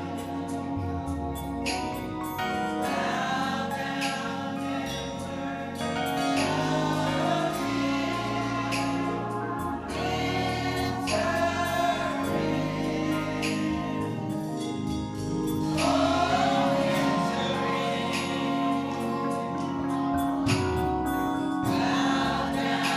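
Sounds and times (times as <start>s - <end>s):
gospel choir singing: 0.0s - 22.9s
instruments holding low notes: 0.0s - 22.9s.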